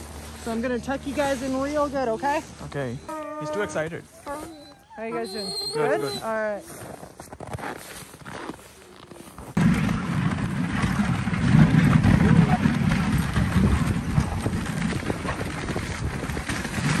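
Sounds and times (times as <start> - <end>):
sled runners scraping over snow: 0.0 - 17.0.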